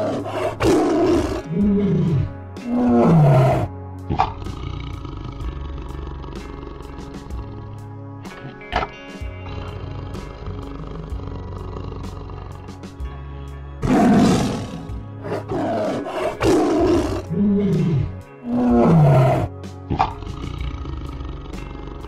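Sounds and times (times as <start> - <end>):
tiger roaring: 0.0 - 7.8, 8.5 - 12.9, 13.8 - 22.0
background music: 0.0 - 22.0.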